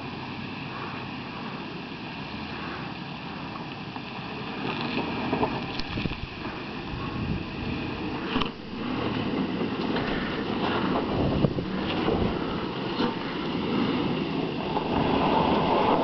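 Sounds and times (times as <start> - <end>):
truck engine running at low speed: 0.0 - 16.0.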